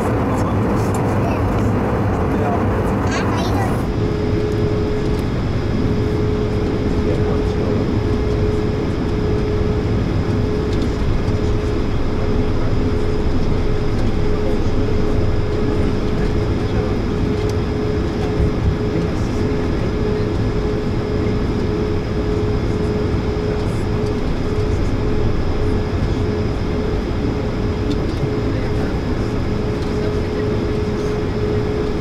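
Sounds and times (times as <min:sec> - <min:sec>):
aircraft cabin rumble: 0:00.0 - 0:32.0
steady hum-like tone: 0:00.0 - 0:32.0.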